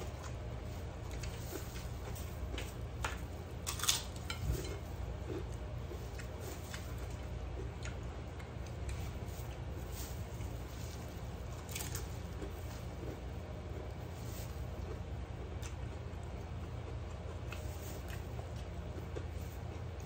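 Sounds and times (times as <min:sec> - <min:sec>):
crackers crunching: 0:00.0 - 0:20.0
steady low hum: 0:00.0 - 0:20.0.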